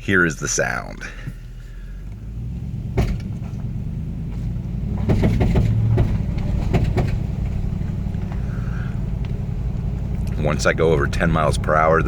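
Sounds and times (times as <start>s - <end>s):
engine accelerating: 1.3s - 12.0s.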